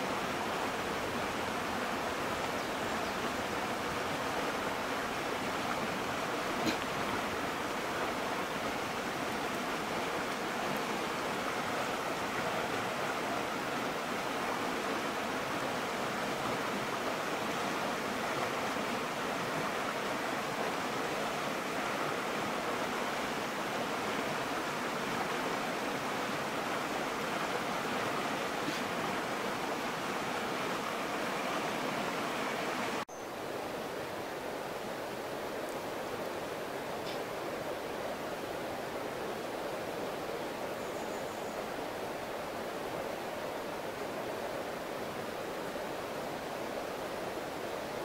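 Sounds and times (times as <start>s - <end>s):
stream rushing over rocks: 0.0s - 48.0s.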